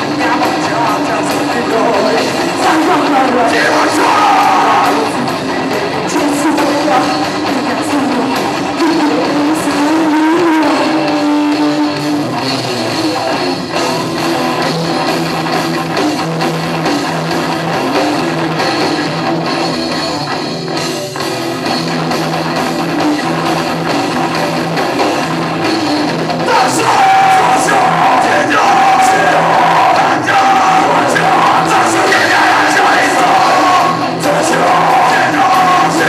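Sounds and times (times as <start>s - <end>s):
loud live rock band: 0.0s - 36.0s.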